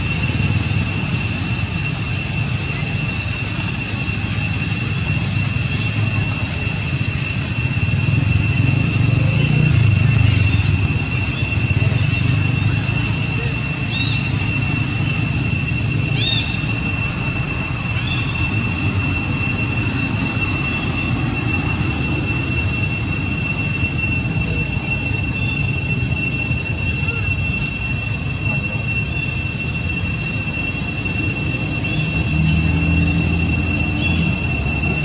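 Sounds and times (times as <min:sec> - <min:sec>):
insect drone: 0:00.0 - 0:35.0.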